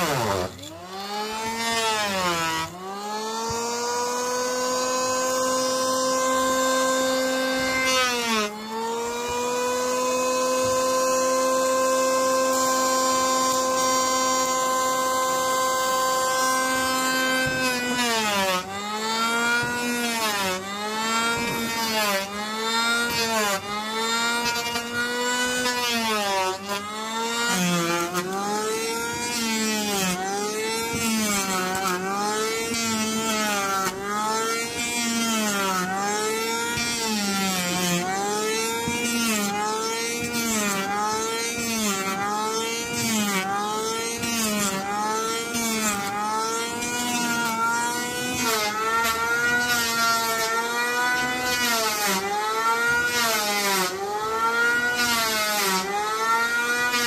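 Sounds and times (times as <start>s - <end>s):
power tool motor cycling: 0.0s - 57.0s.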